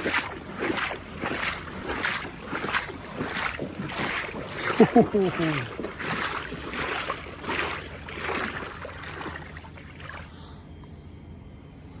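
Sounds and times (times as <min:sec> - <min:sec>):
legs wading through water: 0:00.0 - 0:10.9.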